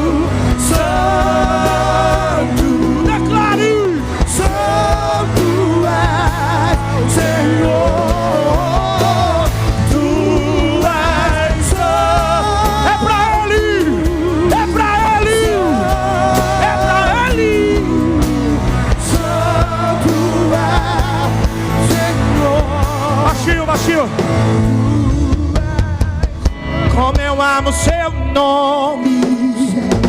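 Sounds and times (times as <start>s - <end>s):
solo voice singing with vibrato: 0.0s - 26.4s
band with bass keyboard and drums: 0.0s - 30.0s.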